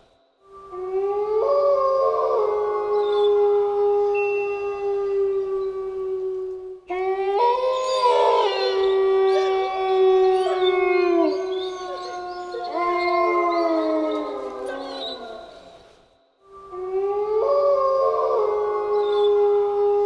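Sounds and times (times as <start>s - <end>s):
wolves howling in chorus: 0.7s - 16.0s, 16.6s - 20.0s.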